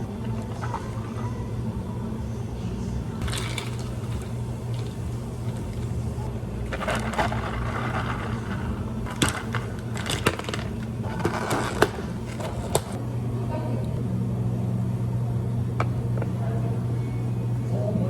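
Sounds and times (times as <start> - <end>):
low hum of equipment: 0.0 - 18.0.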